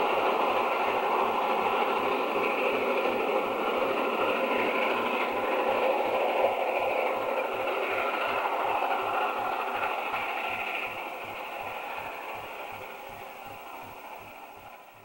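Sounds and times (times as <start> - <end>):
train coaches rumbling on rails: 0.0 - 15.0.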